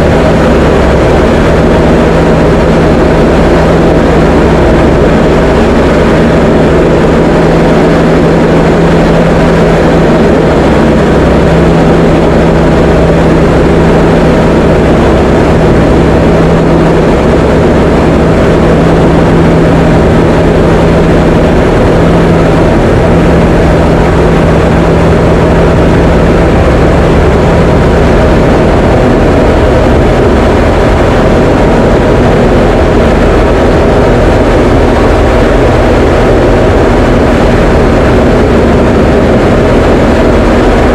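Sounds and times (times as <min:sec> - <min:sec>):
aircraft engine and propeller droning: 0:00.0 - 0:40.9
steady low hum: 0:00.0 - 0:40.9.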